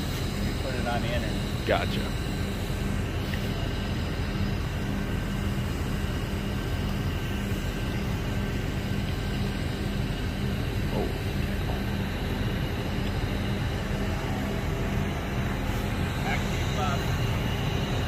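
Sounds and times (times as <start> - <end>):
crane engine droning: 0.0 - 18.0.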